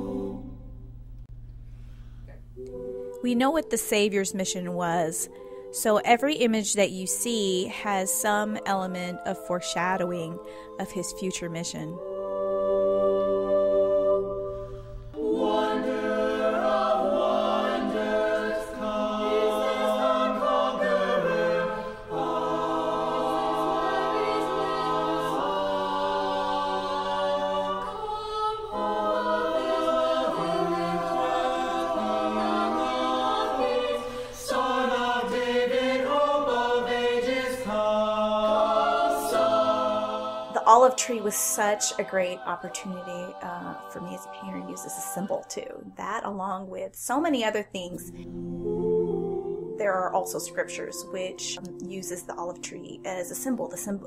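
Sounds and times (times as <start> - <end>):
choir singing held chords: 0.0 - 1.0, 1.7 - 46.0, 47.9 - 54.0.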